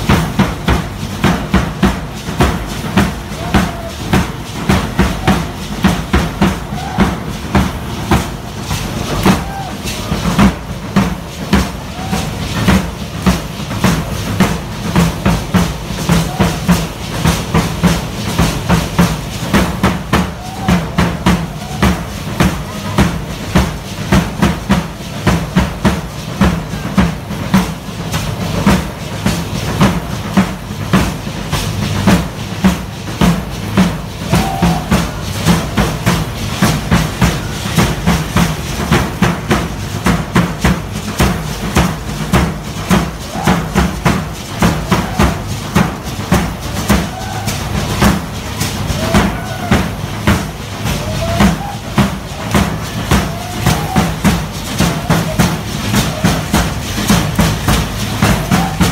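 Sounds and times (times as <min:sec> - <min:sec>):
drums beaten fast: 0:00.0 - 0:58.9.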